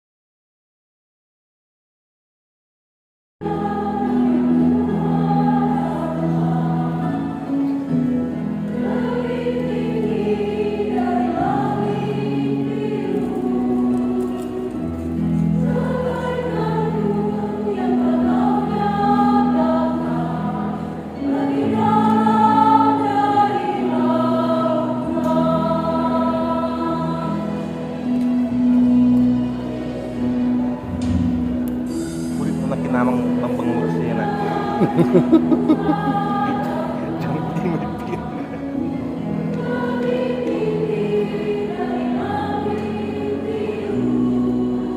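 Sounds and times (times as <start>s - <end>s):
church choir singing a hymn: 3.4s - 44.9s.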